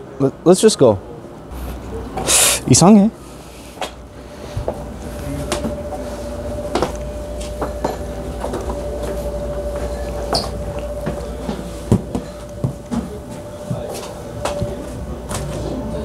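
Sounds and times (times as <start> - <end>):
steady low hum: 1.0 - 16.0.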